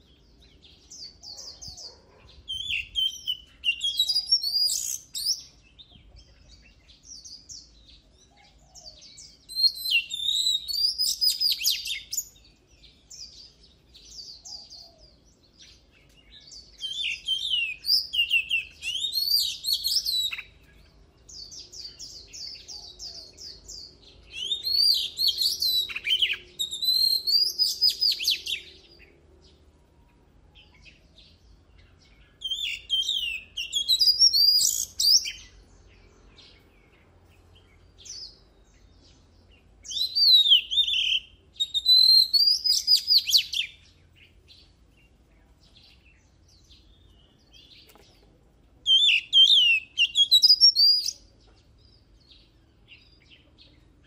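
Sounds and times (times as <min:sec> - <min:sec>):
bird singing whistles and trills: 0:00.0 - 0:29.2, 0:30.5 - 0:48.0, 0:48.8 - 0:53.4.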